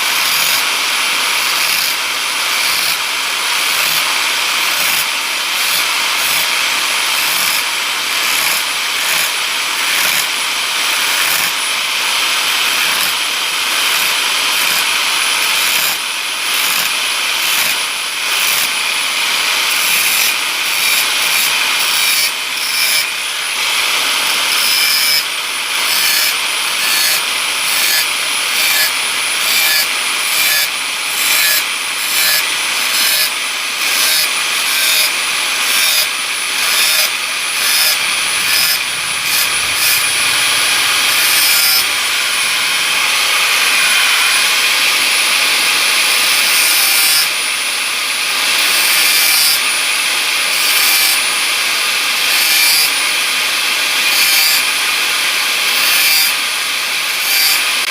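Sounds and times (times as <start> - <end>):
angle grinder whining on steel: 0.0 - 57.9.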